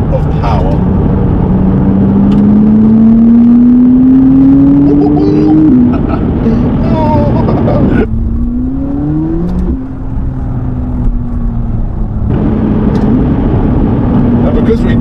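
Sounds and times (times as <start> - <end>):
car engine accelerating: 0.0 - 15.0
road noise: 0.0 - 15.0.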